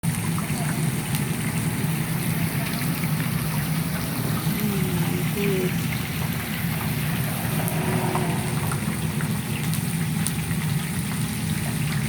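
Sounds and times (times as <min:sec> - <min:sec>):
steady low hum: 0:00.2 - 0:11.0.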